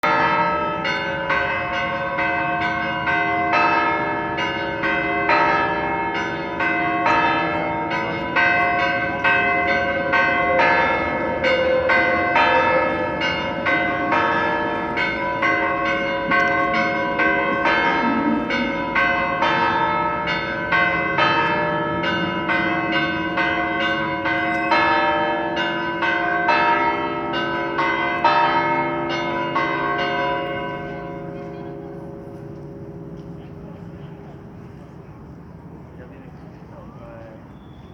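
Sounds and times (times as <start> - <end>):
church bells pealing: 0.0 - 37.9.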